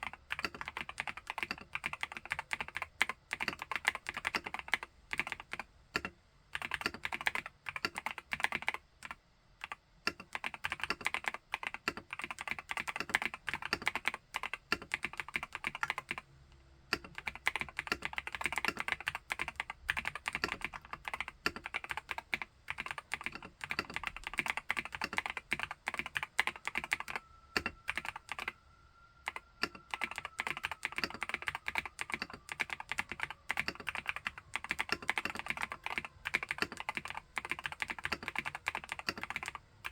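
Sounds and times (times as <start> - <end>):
mechanical keyboard typing: 0.0 - 16.2, 16.9 - 28.6, 29.2 - 39.9.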